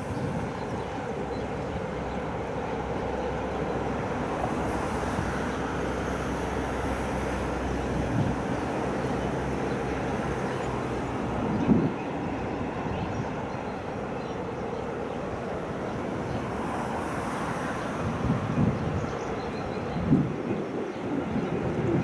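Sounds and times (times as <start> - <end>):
freight train rolling on rails: 0.0 - 22.0.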